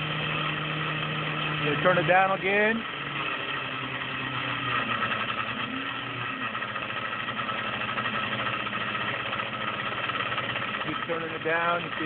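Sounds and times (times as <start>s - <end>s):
electric motor spinning: 0.0s - 12.0s.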